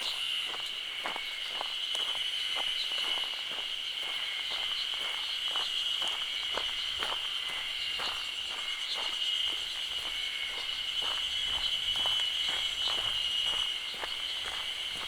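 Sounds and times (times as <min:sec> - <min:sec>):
insects droning: 0:00.0 - 0:15.0
footsteps walking: 0:00.5 - 0:15.0.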